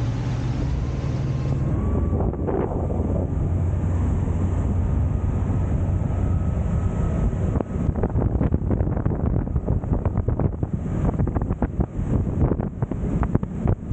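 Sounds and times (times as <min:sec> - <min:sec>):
boat engine rumbling: 0:00.0 - 0:13.9
wind buffeting microphone: 0:00.0 - 0:13.9.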